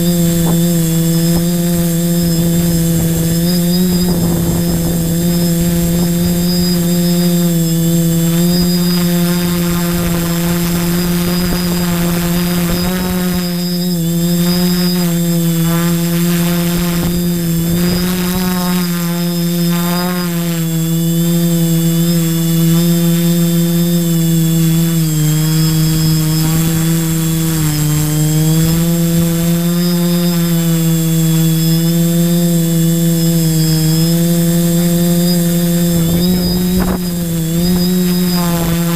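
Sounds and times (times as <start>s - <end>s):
drone motors and propellers humming: 0.0s - 38.9s.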